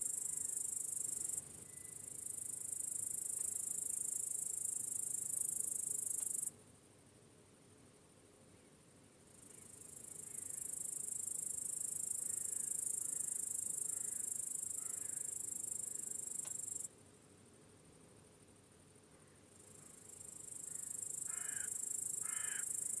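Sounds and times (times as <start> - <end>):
crickets chirping: 0.0 - 6.6, 8.1 - 23.0.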